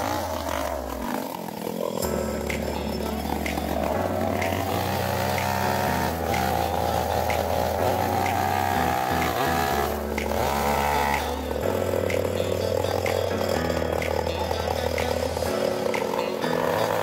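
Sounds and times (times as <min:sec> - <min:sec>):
chainsaw cutting into log: 0:00.0 - 0:17.0.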